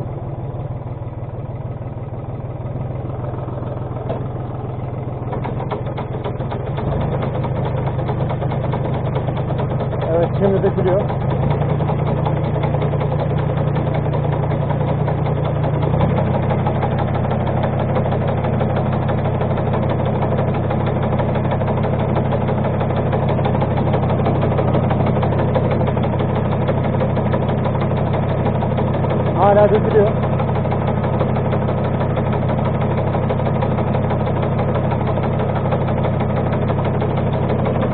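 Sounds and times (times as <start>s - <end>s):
tractor engine under load: 0.0s - 37.9s.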